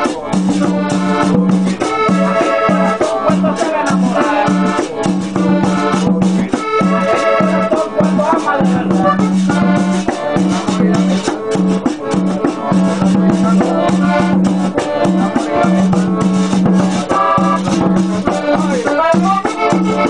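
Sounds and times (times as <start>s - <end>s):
accordion: 0.0s - 20.0s
hand drum: 0.0s - 20.0s.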